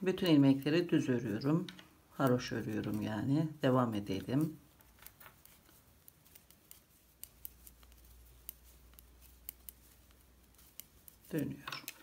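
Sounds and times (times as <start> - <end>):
knitting needles clicking: 0.0 - 12.0.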